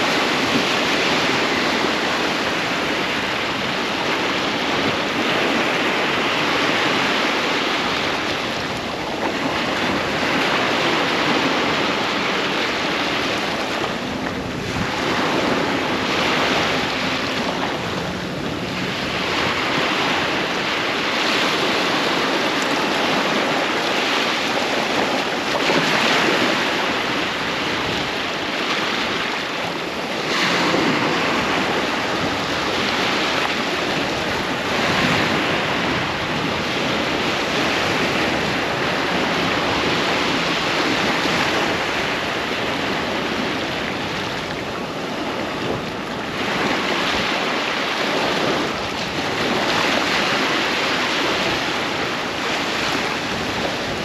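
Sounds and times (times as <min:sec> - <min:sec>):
ocean waves breaking on beach: 0:00.0 - 0:54.0
wind buffeting microphone: 0:00.0 - 0:54.0.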